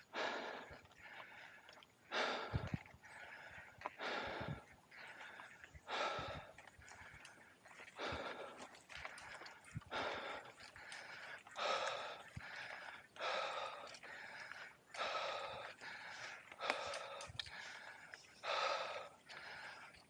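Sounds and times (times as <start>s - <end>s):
person breathing hard: 0.0s - 20.0s.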